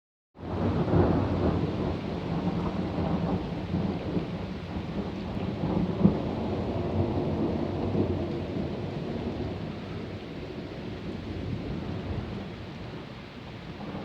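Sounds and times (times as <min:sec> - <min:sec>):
rain falling: 0:00.4 - 0:14.0
thunder rumbling: 0:00.4 - 0:14.0.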